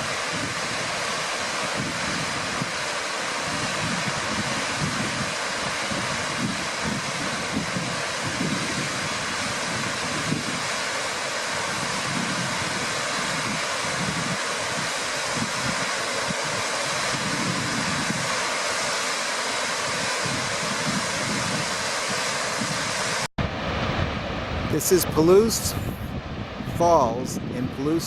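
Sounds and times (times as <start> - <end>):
wind buffeting microphone: 0.0 - 19.0, 19.8 - 28.0
waterfall rushing: 0.0 - 26.0.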